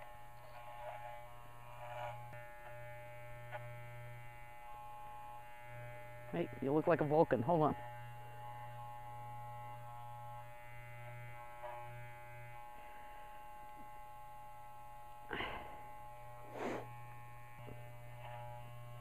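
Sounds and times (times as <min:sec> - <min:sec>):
electric clippers buzzing: 0:00.0 - 0:19.0.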